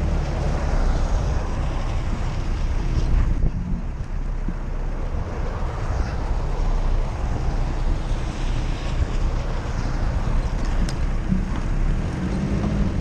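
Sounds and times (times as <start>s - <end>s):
car engine rumbling: 0.0s - 13.0s
wind buffeting microphone: 0.0s - 13.0s.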